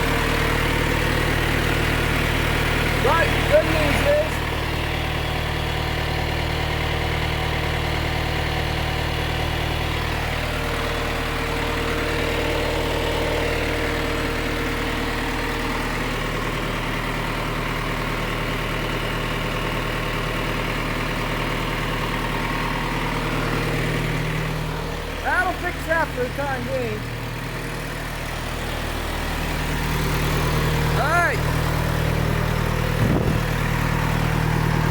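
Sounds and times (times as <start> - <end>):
tractor diesel engine idling: 0.0 - 34.9.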